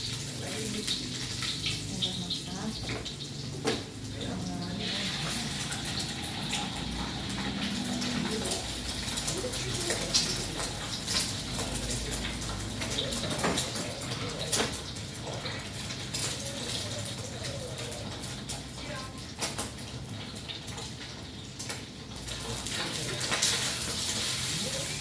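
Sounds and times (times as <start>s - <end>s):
metal utensils clinking on cookware: 0.0s - 25.0s.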